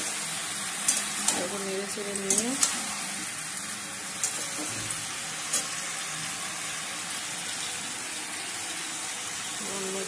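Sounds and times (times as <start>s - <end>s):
vegetables sizzling in pan: 0.0s - 10.0s.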